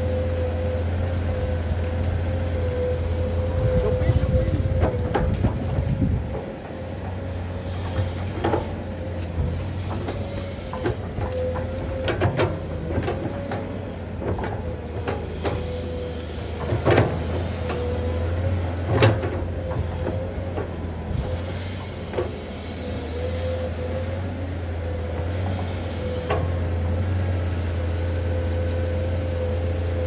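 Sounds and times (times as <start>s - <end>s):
excavator diesel engine: 0.0s - 30.0s
hydraulic whine: 0.0s - 30.0s.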